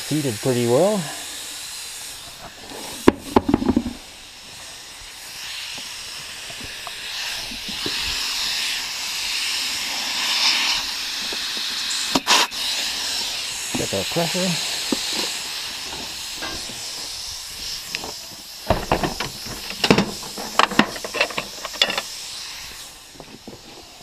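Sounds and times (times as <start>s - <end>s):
compressed air hissing into tire: 0.0s - 24.0s.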